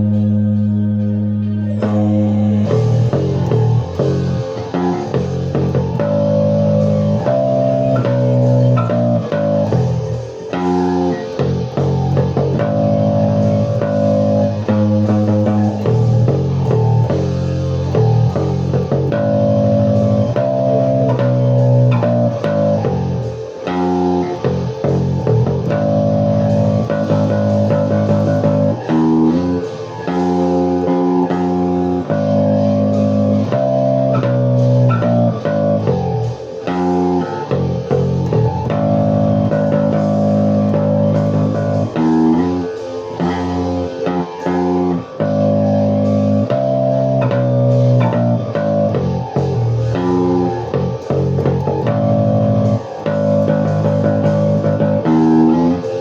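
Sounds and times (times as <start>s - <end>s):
instrumental rock guitar and bass: 0.0s - 56.0s.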